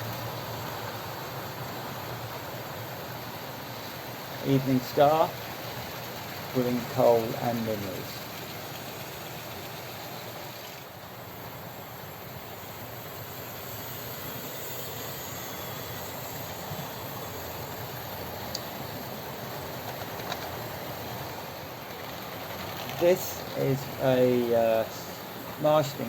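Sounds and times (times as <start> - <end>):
model trains running on track: 0.0 - 26.0.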